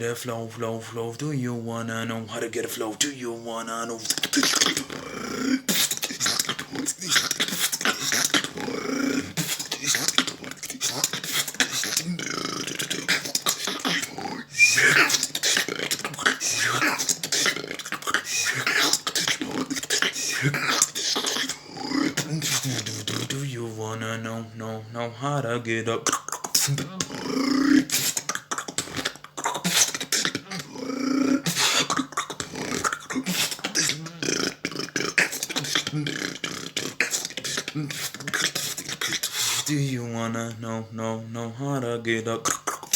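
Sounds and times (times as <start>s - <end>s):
person beatboxing: 3.8s - 24.4s, 25.9s - 40.8s, 42.3s - 42.9s.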